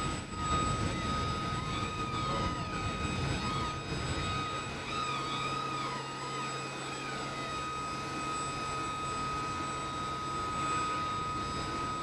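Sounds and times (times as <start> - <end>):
high-pitched turbine whine: 0.0 - 12.0.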